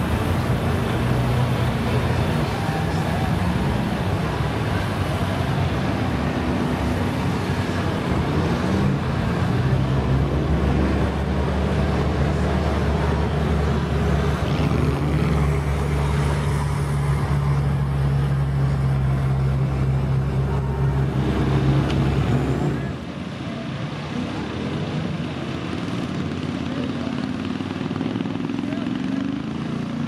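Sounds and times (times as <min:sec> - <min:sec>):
vehicle engine running hard: 0:00.0 - 0:30.0.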